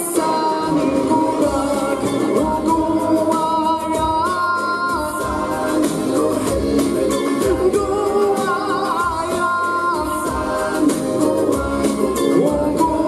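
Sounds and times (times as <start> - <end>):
man singing into microphone: 0.0 - 13.0
musical accompaniment: 0.0 - 13.0.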